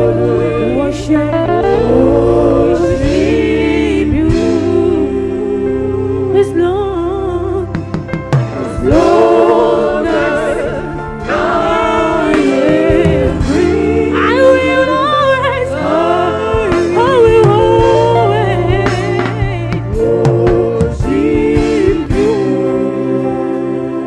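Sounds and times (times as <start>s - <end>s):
gospel singing: 0.0s - 7.8s, 8.4s - 24.0s
bass: 0.0s - 24.0s
keyboard chords: 0.0s - 24.0s.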